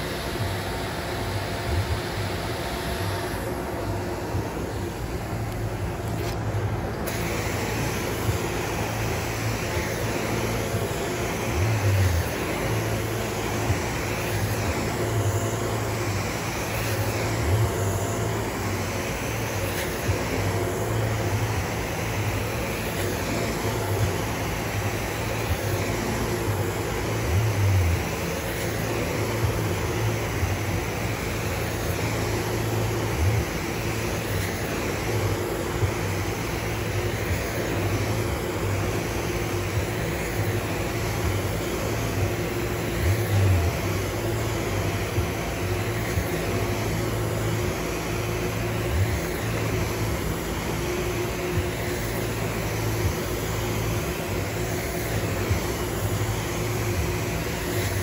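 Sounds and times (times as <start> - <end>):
carpet extractor vacuum rush: 0.0 - 58.0.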